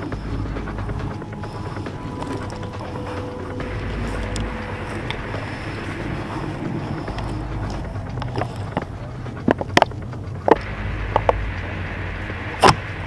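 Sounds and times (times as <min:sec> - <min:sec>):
wind on microphone: 0:00.0 - 0:13.0
twigs clicking and snapping: 0:00.1 - 0:11.4.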